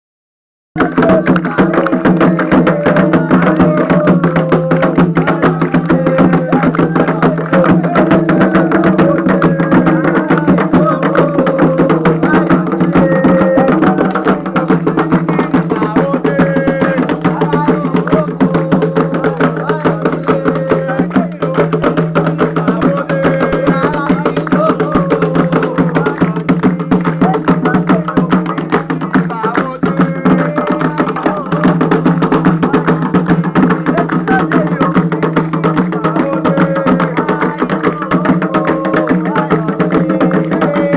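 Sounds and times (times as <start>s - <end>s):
hand drums: 0.8s - 40.9s
struck percussion instrument: 0.8s - 40.9s
voices singing: 0.8s - 40.9s.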